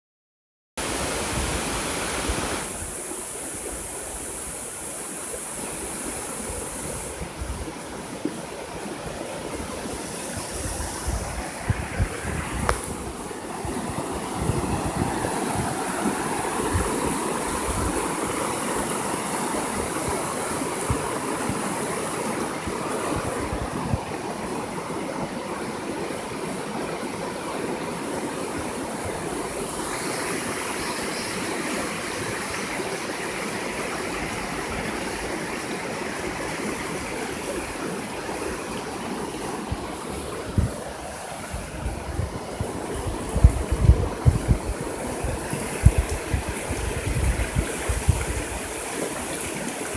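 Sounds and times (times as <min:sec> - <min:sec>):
stream running over rocks: 0:00.8 - 0:49.9.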